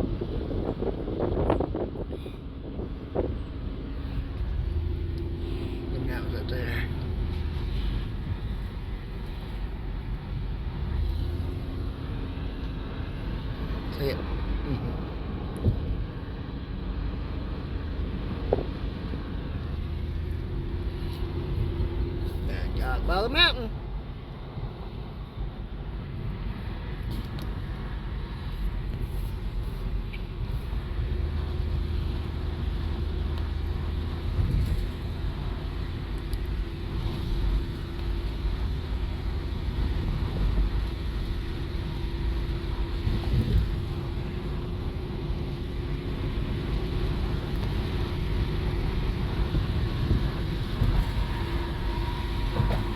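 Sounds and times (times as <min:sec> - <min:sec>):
engine and tyre rumble in car: 0:00.0 - 0:52.9.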